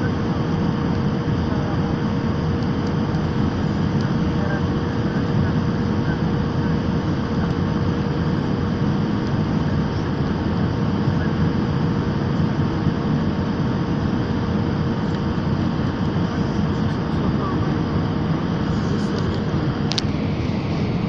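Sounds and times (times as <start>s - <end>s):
faint constant hum: 0.0s - 21.0s
jet engines and airflow rushing: 0.0s - 21.0s.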